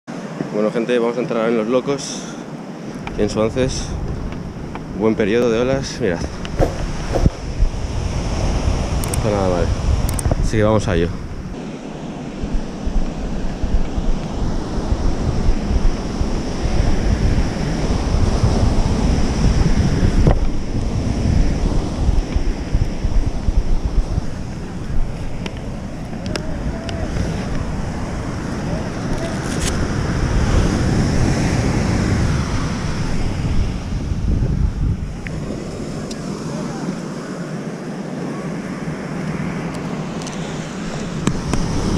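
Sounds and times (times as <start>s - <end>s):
ocean surf breaking: 0.1s - 41.9s
wind buffeting microphone: 2.8s - 41.9s.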